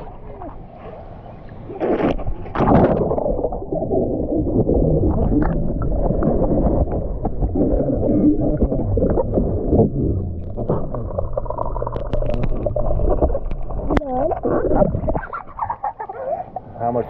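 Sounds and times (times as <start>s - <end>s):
muffled underwater pool water sloshing: 0.0s - 17.0s.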